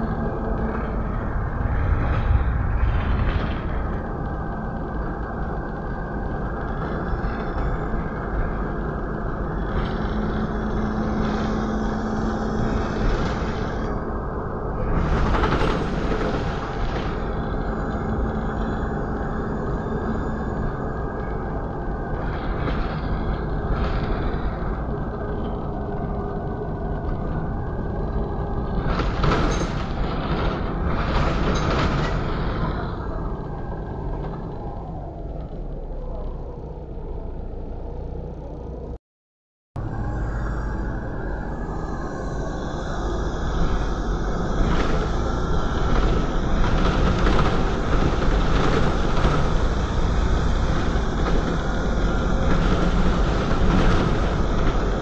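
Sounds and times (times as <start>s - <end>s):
bus diesel engine: 0.0s - 39.0s, 39.8s - 55.0s
road noise: 0.0s - 39.0s, 39.8s - 55.0s.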